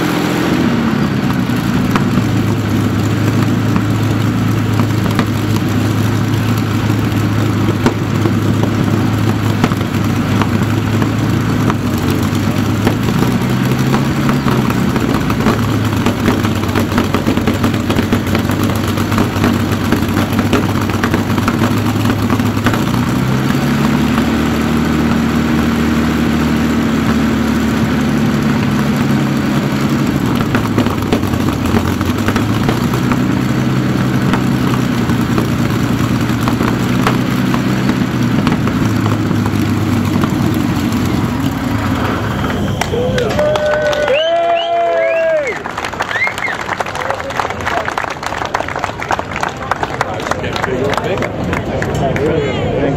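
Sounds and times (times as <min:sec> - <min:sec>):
aero engine running: 0:00.0 - 0:52.9.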